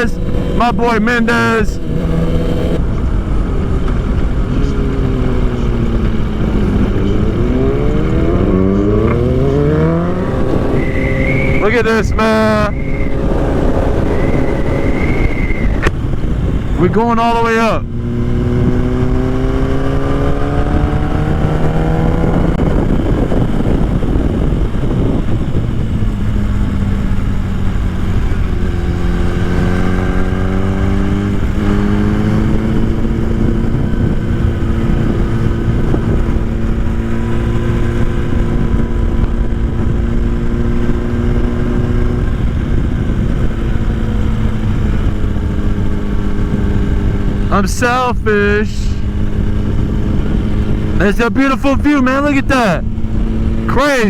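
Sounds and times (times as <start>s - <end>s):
motorcycle engine accelerating: 0.0s - 54.0s
wind rush: 0.0s - 54.0s.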